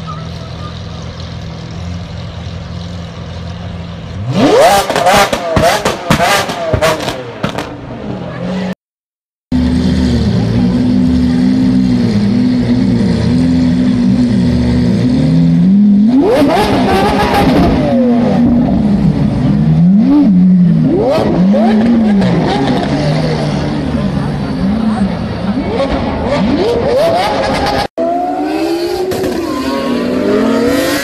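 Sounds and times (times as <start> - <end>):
car engine revving: 0.3 - 8.8, 9.5 - 31.0.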